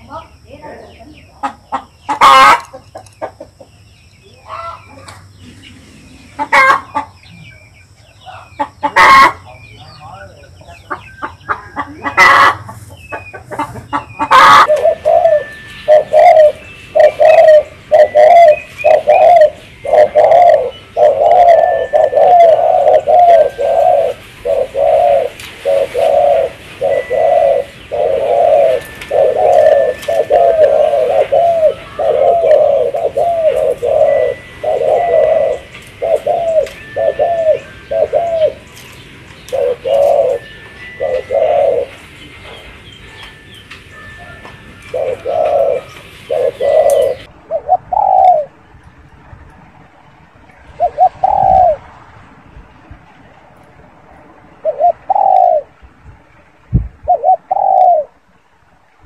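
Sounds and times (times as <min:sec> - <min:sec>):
dove cooing: 0:00.0 - 0:03.7, 0:04.3 - 0:07.6, 0:08.3 - 0:10.2, 0:10.8 - 0:48.6, 0:50.6 - 0:51.9, 0:54.6 - 0:55.8, 0:57.0 - 0:58.2.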